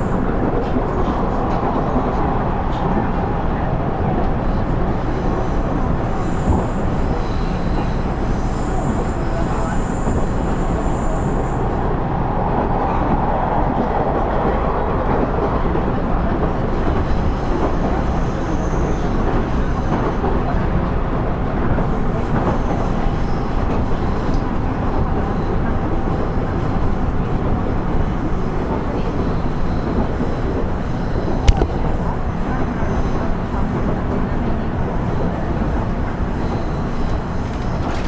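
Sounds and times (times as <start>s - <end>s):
diesel railcar rumbling on rails: 0.0s - 38.0s.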